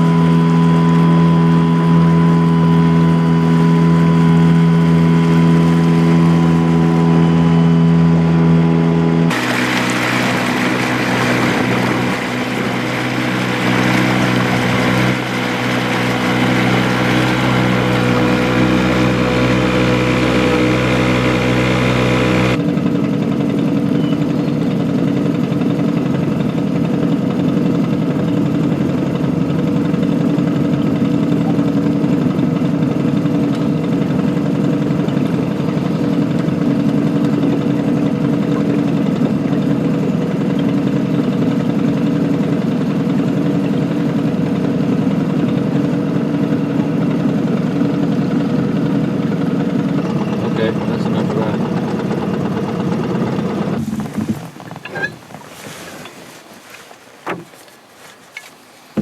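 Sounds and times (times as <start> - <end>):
engine running: 0.0 - 57.7.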